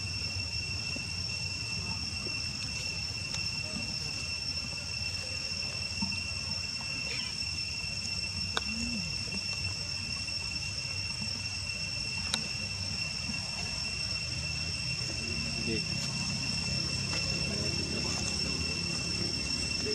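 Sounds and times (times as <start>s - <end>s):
high-pitched insect drone: 0.0s - 19.9s
low outdoor rumble: 0.0s - 19.9s.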